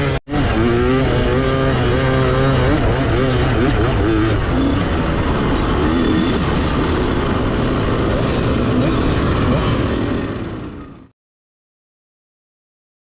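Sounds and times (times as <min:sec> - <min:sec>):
motocross bike engine revving: 0:00.0 - 0:11.1.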